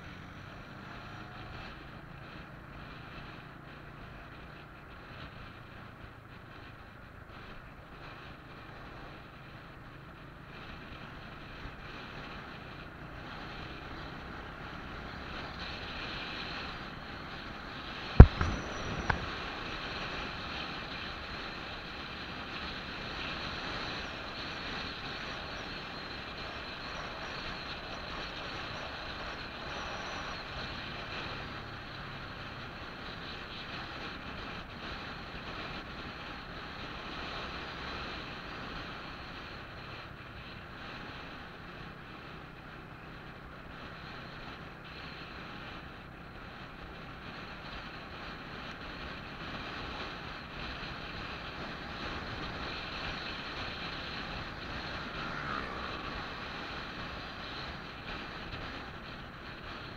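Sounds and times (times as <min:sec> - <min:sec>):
vehicle road noise on highway: 0:00.0 - 0:59.9
wind rushing on microphone: 0:00.0 - 0:59.9.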